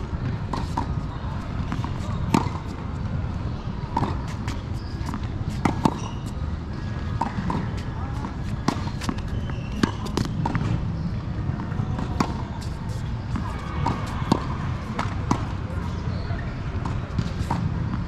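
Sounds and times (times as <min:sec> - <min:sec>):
tennis balls struck by rackets: 0:00.2 - 0:03.1, 0:03.8 - 0:15.6, 0:16.8 - 0:18.0
tennis balls bouncing on hard court: 0:00.2 - 0:18.0.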